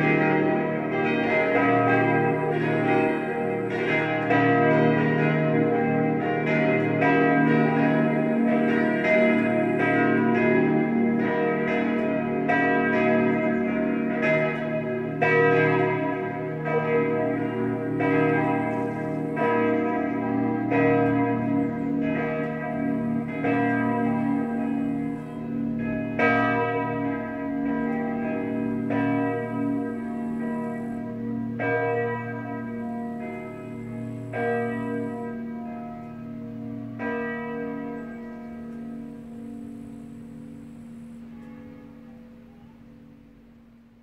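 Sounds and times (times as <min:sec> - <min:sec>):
church bells pealing: 0:00.0 - 0:44.0.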